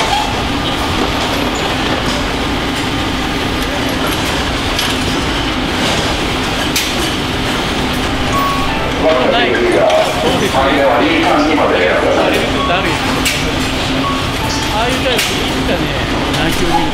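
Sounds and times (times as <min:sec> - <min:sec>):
factory machinery hum: 0:00.0 - 0:16.9.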